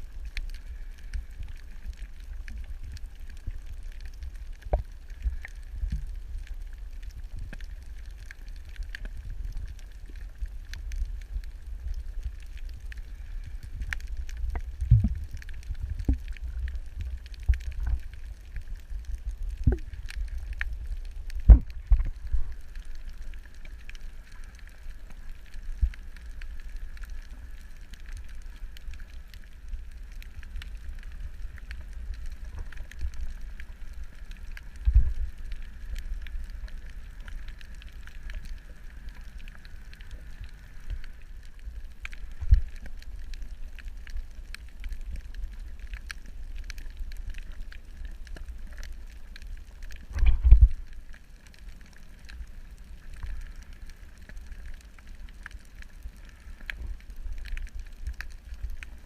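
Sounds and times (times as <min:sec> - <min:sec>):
low underwater rumble: 0:00.0 - 0:59.0
crackling clicks: 0:00.1 - 0:59.0.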